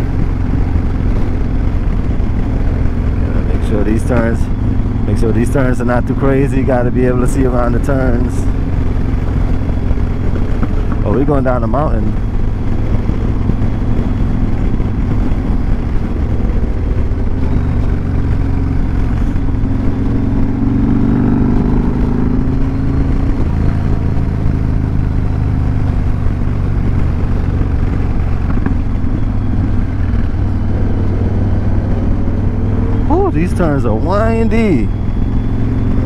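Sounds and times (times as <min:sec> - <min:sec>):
motorcycle engine running: 0:00.0 - 0:36.0
wind rush on microphone: 0:00.0 - 0:36.0.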